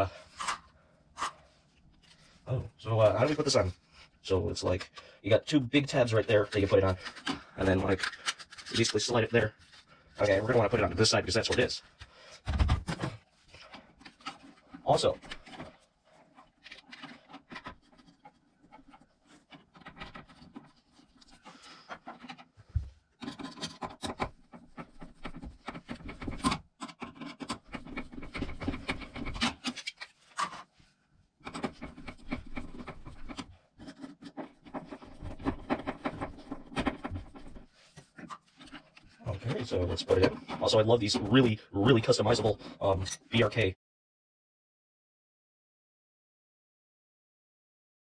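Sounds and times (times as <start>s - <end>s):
plastic parts rubbing and scraping: 0.0s - 43.7s.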